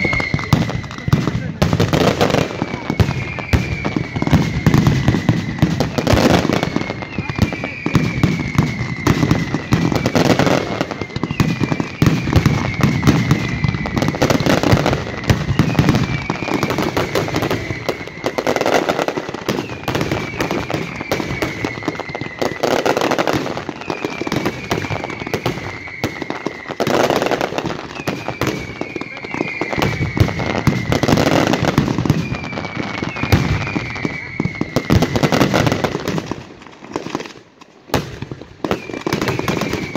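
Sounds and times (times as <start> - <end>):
faint falling whistle: 0.0 - 35.9, 38.6 - 39.9
fireworks bangs: 0.0 - 39.9
fireworks crackling and popping: 0.0 - 39.9.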